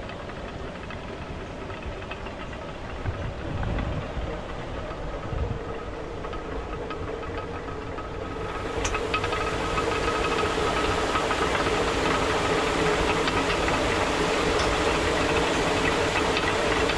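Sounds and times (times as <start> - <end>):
water mill rumbling and clattering: 0.0 - 16.9.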